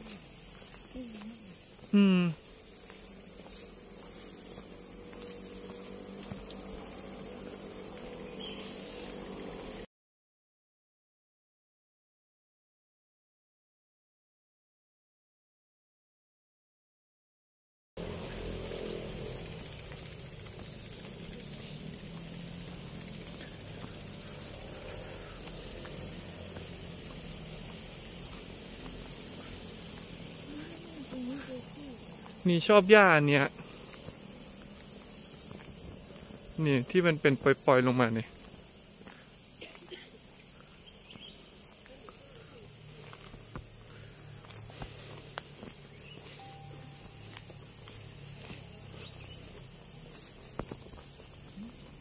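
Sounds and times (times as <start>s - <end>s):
insects droning: 0.0s - 9.9s, 18.0s - 52.0s.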